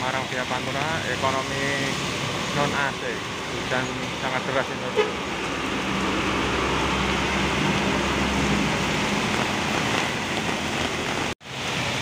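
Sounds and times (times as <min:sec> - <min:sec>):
heavy rain on road: 0:00.0 - 0:12.0
bus engine passing by: 0:00.3 - 0:12.0.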